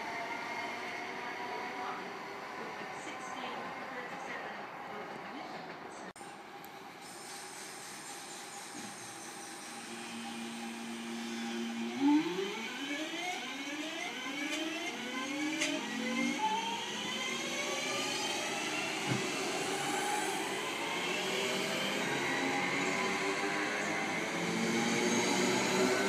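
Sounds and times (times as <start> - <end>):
train rumble: 0.0 - 26.0
train traction whine: 0.0 - 26.0.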